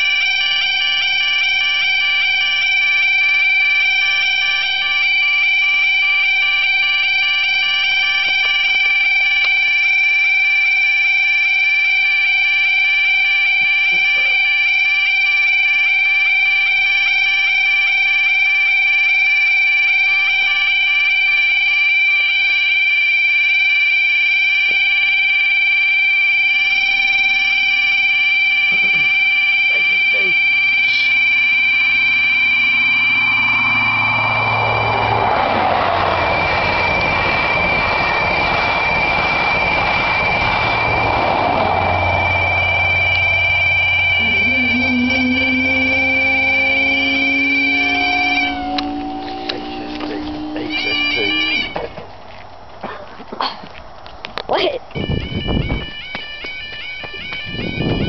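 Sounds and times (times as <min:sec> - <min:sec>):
level crossing warning alarm: 0:00.0 - 0:52.5, 0:54.4 - 0:58.0.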